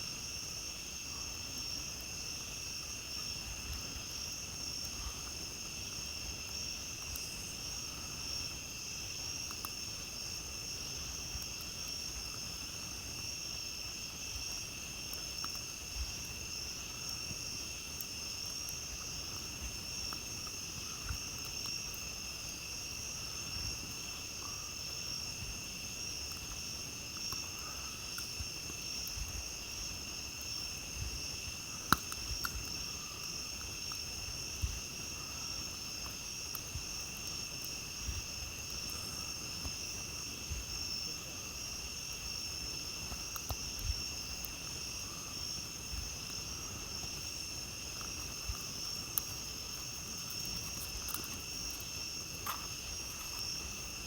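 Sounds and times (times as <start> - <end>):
night insects trilling: 0.0 - 54.0
campfire crackling and popping: 2.1 - 54.0.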